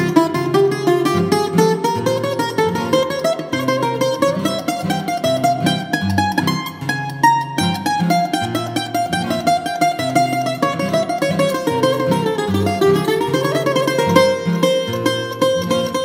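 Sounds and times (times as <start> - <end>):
bouzouki plucked improvisation: 0.0 - 16.0.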